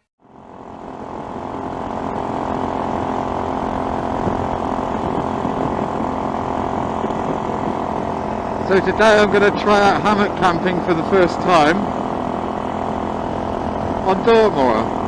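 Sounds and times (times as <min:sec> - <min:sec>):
motorcycle engine running: 0:00.2 - 0:15.0
wind and road noise: 0:00.4 - 0:15.0.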